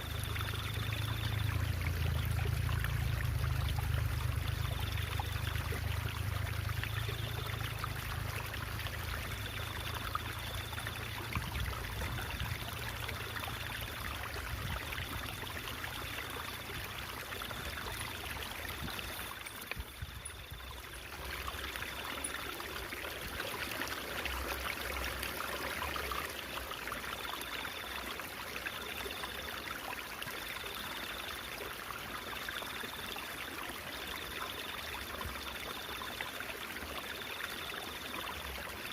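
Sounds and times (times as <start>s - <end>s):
stream babbling and trickling: 0.0s - 38.9s.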